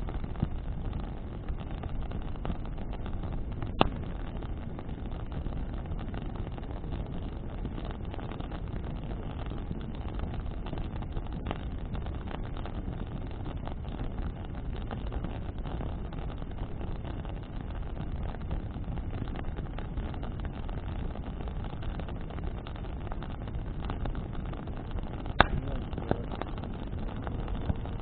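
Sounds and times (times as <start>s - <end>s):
bonfire crackling: 0.0s - 28.0s
sharp pop from fire: 0.0s - 28.0s
wind rumble on microphone: 0.0s - 28.0s.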